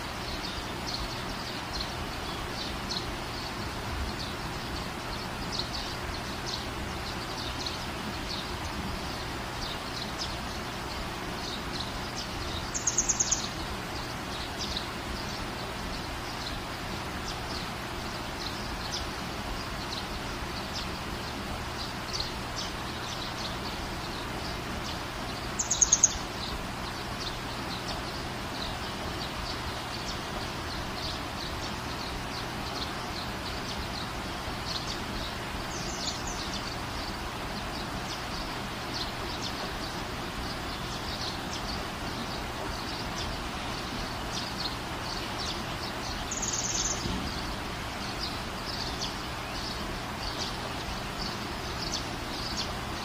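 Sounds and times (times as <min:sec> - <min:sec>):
birds chirping: 0:00.0 - 0:53.0
outdoor background noise: 0:00.0 - 0:53.0.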